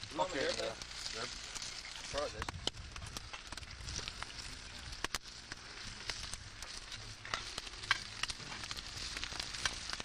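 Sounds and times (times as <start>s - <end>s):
fish sizzling with pops: 0.0s - 10.0s.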